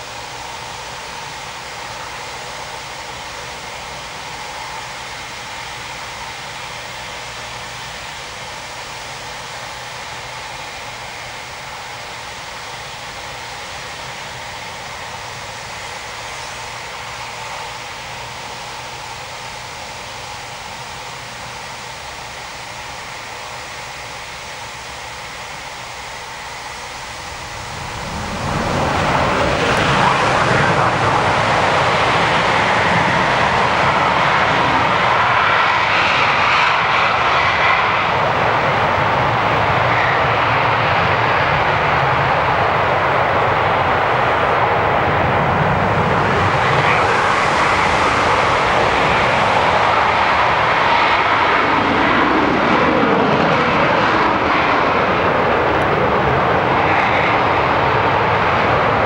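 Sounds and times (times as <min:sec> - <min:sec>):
jet engines taking off: 0:00.0 - 0:59.0.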